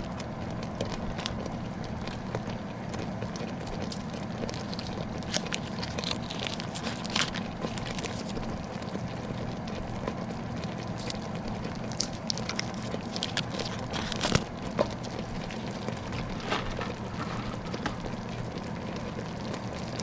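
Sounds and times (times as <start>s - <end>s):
bubbles popping and crackling: 0.0s - 20.0s
steady low hum: 0.0s - 20.0s
thick filling boiling in a pot: 0.0s - 20.0s.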